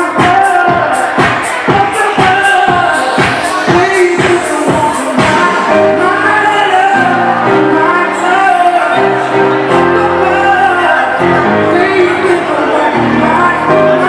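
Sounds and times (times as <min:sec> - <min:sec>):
disco song with singing: 0:00.0 - 0:14.0.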